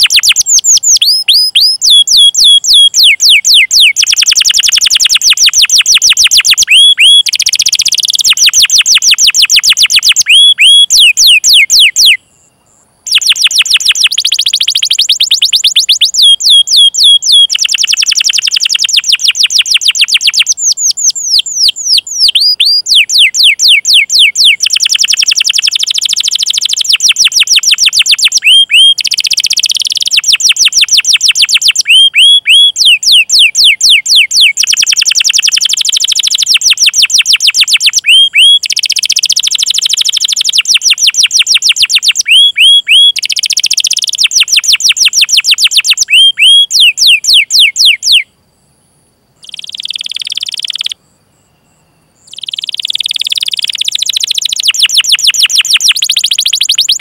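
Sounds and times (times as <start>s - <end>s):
canary singing trills and chirps: 0.0s - 48.3s, 49.4s - 57.0s.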